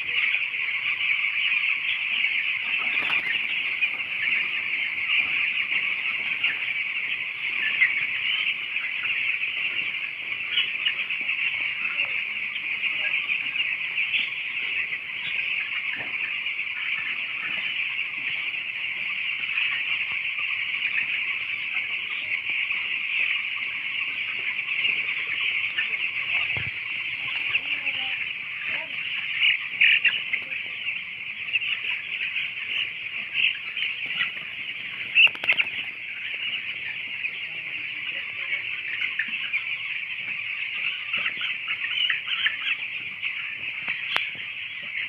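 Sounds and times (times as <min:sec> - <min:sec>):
chicks peeping: 0:00.0 - 0:45.0.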